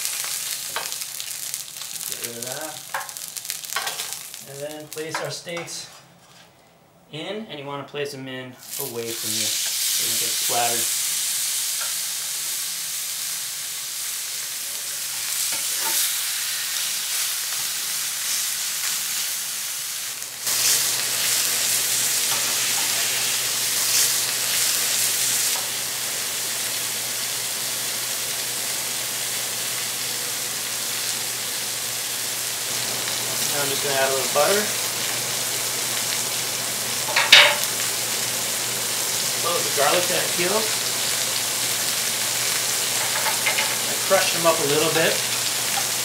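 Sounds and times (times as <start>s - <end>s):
steaks sizzling in a skillet: 0.0s - 5.1s, 8.6s - 46.0s.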